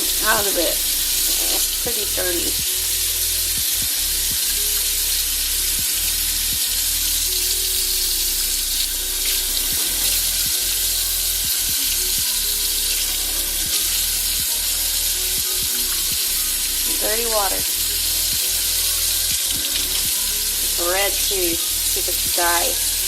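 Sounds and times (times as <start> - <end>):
tap water running: 0.0 - 23.0.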